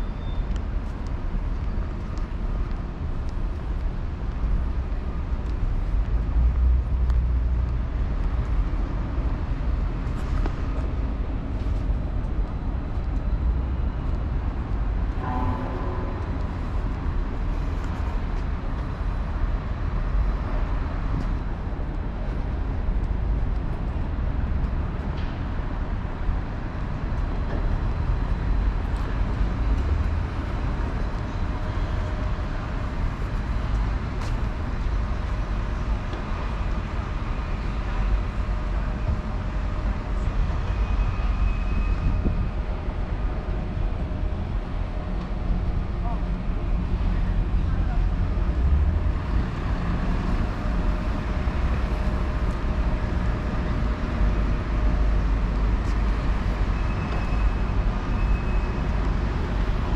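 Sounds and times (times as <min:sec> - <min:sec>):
passing vehicles rumble: 0:00.0 - 0:59.9.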